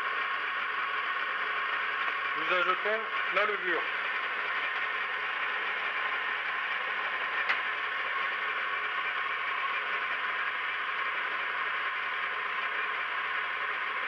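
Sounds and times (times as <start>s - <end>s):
stand mixer motor whirring: 0.0s - 14.0s.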